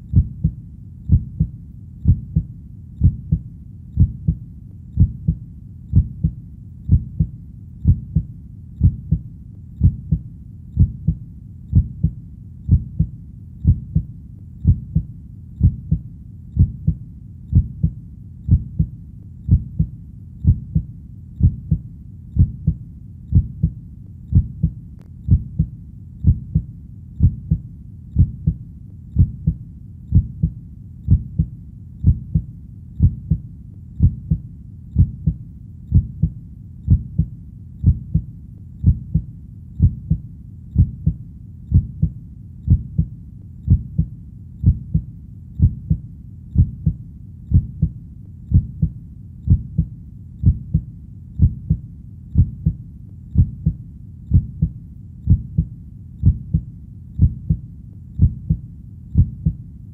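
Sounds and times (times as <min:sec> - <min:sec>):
heartbeat thumps: 0:00.0 - 0:59.6.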